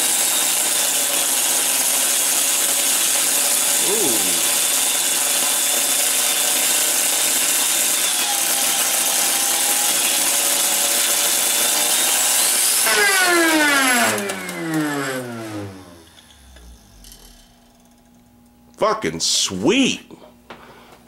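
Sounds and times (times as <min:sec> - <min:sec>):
vacuum motor whining: 0:00.0 - 0:18.6.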